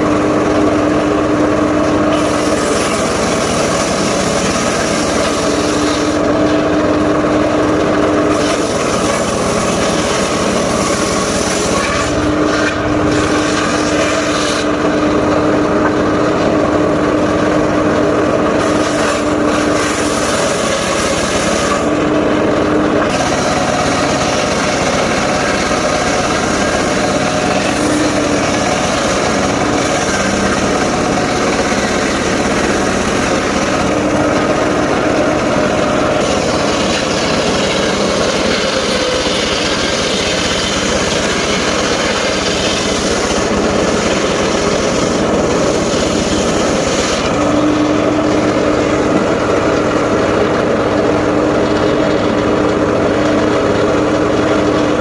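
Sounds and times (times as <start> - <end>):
circular sawmill blade sawing logs: 0.0 - 55.0.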